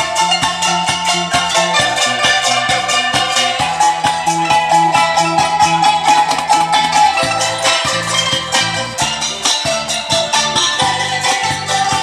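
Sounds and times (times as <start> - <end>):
plucked lute: 0.0 - 12.0
steady beat with bass line: 0.0 - 12.0
xylophone bars struck: 0.0 - 12.0.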